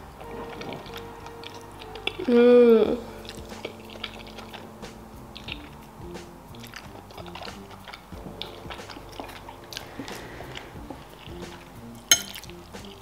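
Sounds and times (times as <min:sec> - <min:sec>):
quiet background music: 0:00.0 - 0:13.0
person chewing with mouth clicks: 0:00.2 - 0:02.4, 0:03.2 - 0:13.0.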